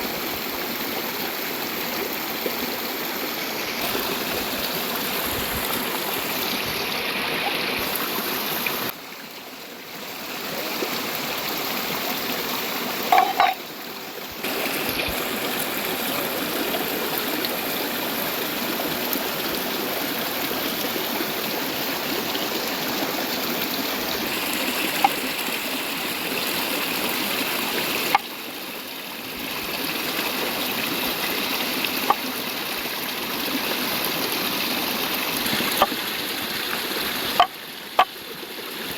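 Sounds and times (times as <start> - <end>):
river water over rocks: 0.0 - 38.9.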